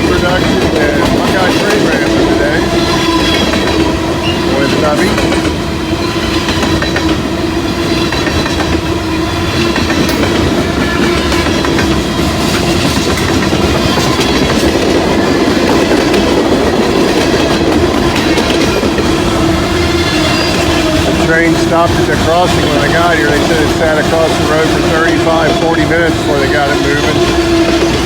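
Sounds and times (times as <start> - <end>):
wheels clicking over rail joints: 0.0 - 5.6, 9.5 - 28.0
freight cars rumbling past: 0.0 - 28.0.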